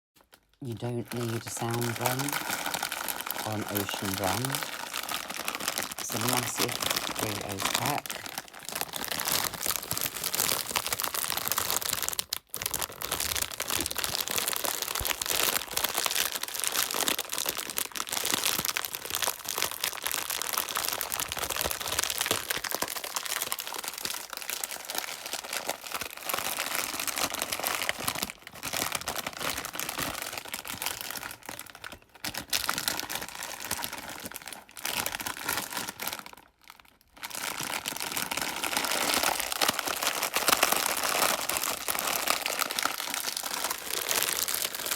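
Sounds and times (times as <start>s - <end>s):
plastic pack crinkling and rustling: 0.2s - 44.9s.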